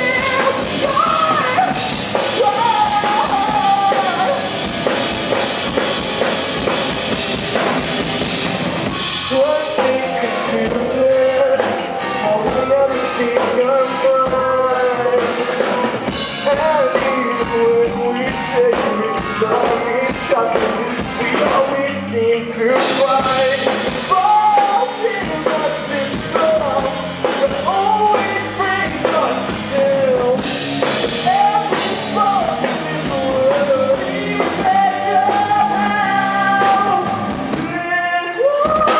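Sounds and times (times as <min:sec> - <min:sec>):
lead vocal singing: 0:00.0 - 0:06.9, 0:07.6 - 0:38.9
live rock band playing: 0:00.0 - 0:38.9.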